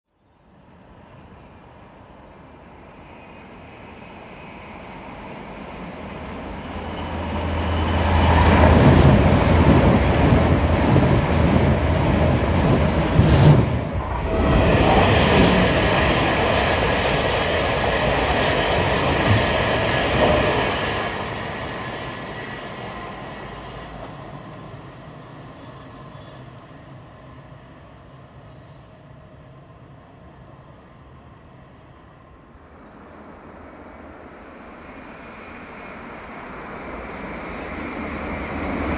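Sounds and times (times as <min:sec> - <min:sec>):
train passing: 0:00.4 - 0:38.9.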